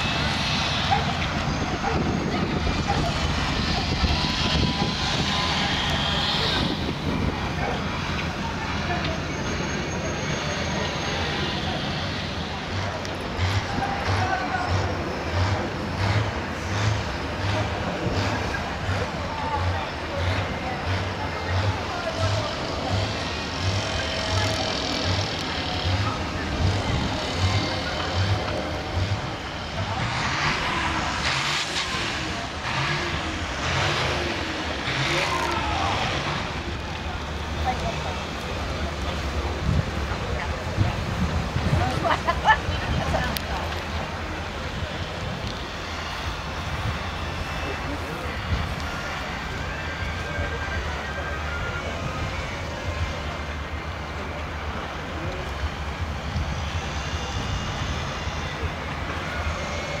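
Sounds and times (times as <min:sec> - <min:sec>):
outdoor background noise: 0:00.0 - 1:00.0
vehicle engines running: 0:00.0 - 1:00.0.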